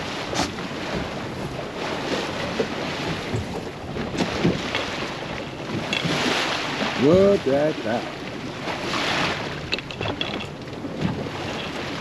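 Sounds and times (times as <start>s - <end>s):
water sloshing around boat: 0.0s - 12.0s.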